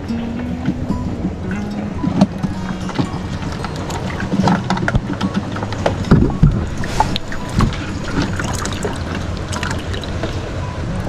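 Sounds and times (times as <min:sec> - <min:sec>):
low steady hum: 0:00.0 - 0:11.0
water sloshing: 0:00.0 - 0:11.0.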